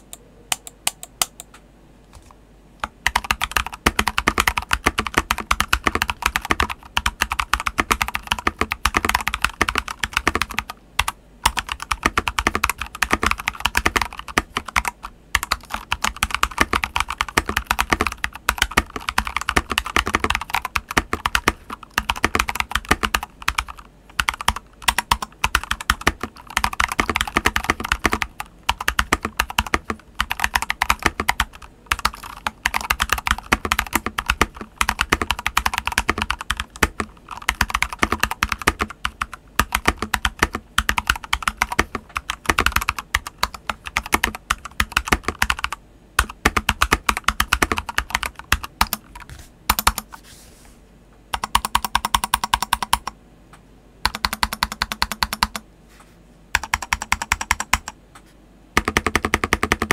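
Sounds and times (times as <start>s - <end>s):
mechanical keyboard typing: 2.8s - 50.1s, 51.3s - 53.2s, 54.0s - 55.6s, 56.5s - 58.0s, 58.8s - 59.9s.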